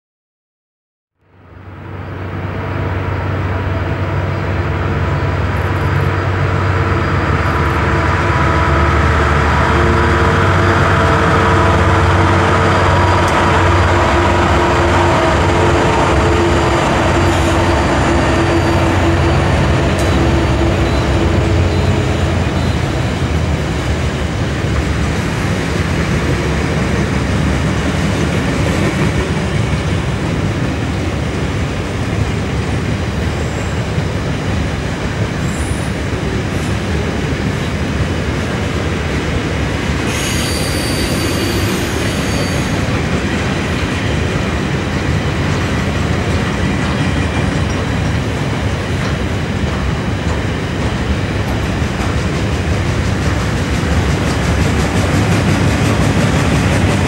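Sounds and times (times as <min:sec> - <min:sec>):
diesel locomotive drone: 0:01.2 - 0:57.0
train wheels rumbling on rails: 0:01.4 - 0:57.0.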